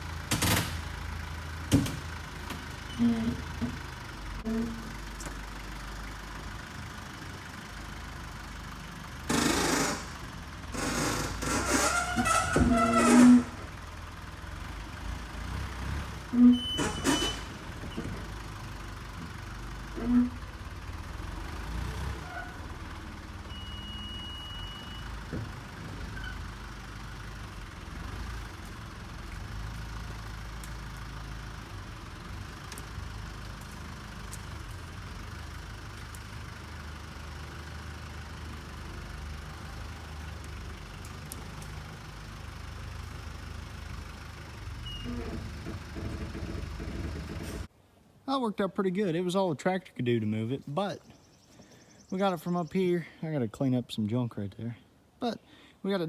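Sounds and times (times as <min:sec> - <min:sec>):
tractor engine running: 0:00.0 - 0:47.7.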